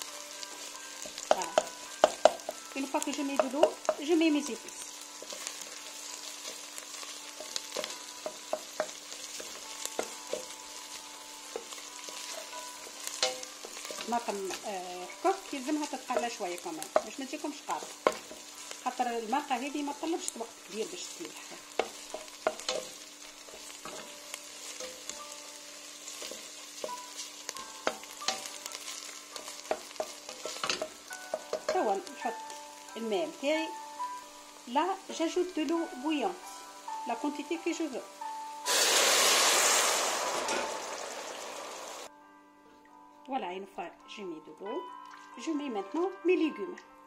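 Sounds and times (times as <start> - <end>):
onions sizzling in oil: 0.0 - 42.1.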